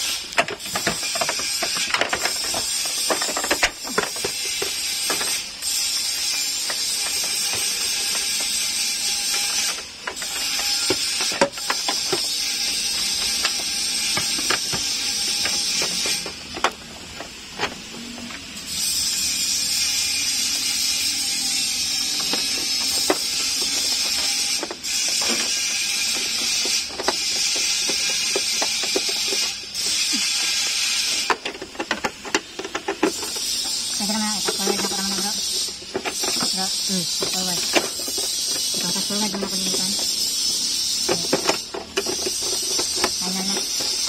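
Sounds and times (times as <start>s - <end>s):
metal clicks and rattles: 0.0s - 19.3s, 20.6s - 44.0s.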